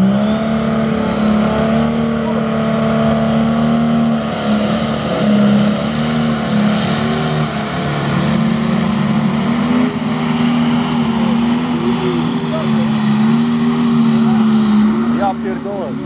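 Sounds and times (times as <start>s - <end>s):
tractor diesel engine: 0.0s - 16.0s.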